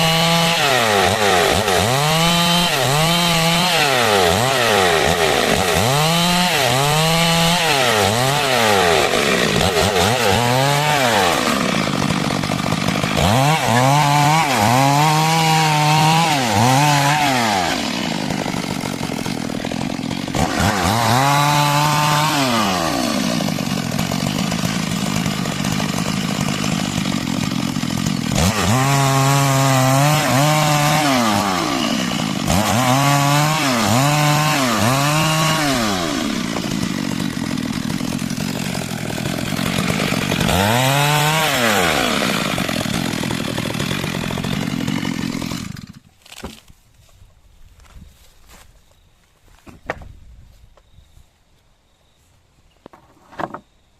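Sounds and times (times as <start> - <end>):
chainsaw cutting wood: 0.0 - 47.1, 52.8 - 53.8.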